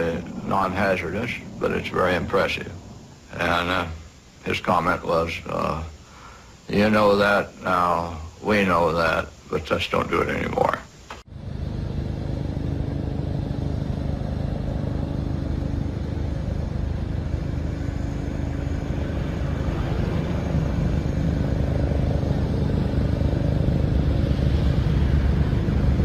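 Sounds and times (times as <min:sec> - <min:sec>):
jet airliner engine rumbling: 0:00.0 - 0:26.0.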